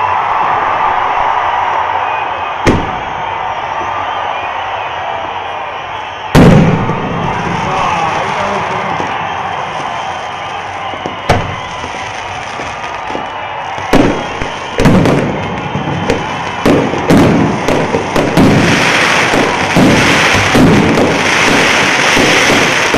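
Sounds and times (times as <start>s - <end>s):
fireworks bangs and crackling: 0.0s - 22.9s.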